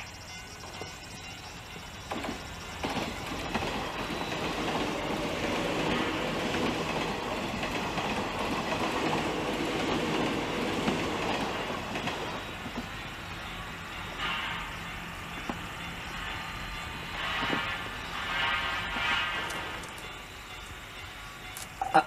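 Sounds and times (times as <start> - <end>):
train rumble with wheel clatter: 0.0 - 22.0.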